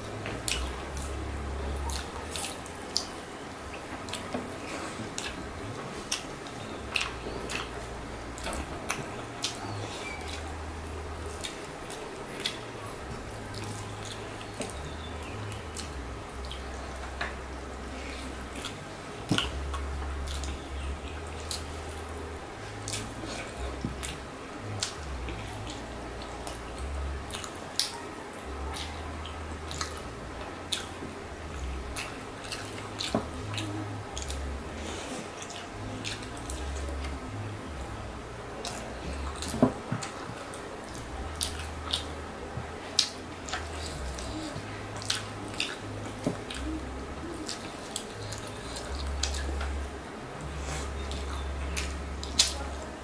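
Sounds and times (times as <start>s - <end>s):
chewing with wet mouth clicks: 0.0s - 53.0s
low hum: 0.0s - 53.0s.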